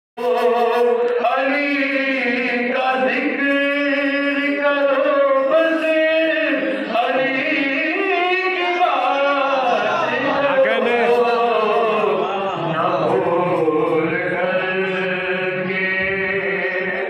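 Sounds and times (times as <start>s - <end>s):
men chanting devotional song: 0.2s - 17.0s.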